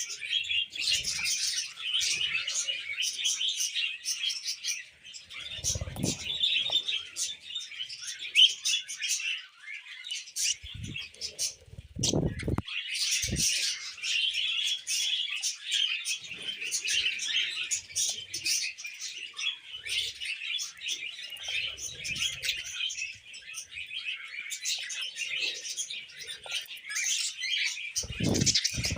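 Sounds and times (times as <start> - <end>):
budgerigars warbling: 5.3 - 28.9.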